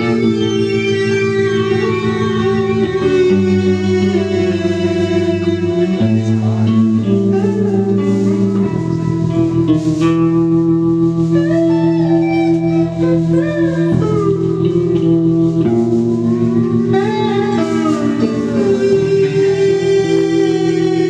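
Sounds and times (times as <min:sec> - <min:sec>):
bending lead guitar line: 0:00.0 - 0:21.0
electric bass low notes: 0:00.0 - 0:21.0.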